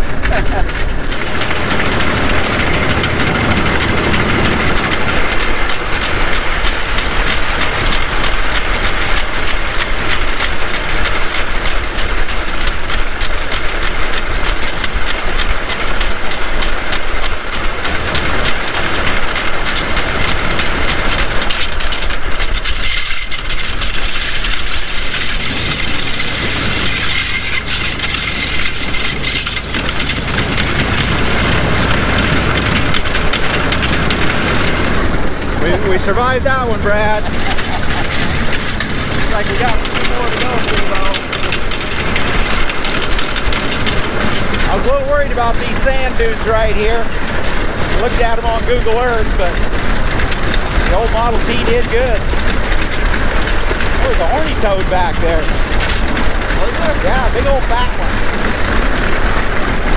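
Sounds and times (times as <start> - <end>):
engine running steadily: 0.0 - 59.9
steel wheels clicking over track: 0.0 - 59.9.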